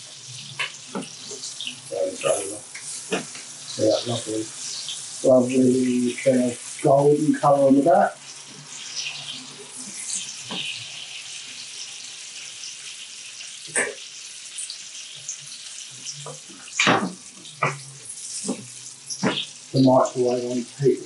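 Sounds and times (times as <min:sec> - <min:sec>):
fish sizzling in a pan: 0:00.0 - 0:21.0.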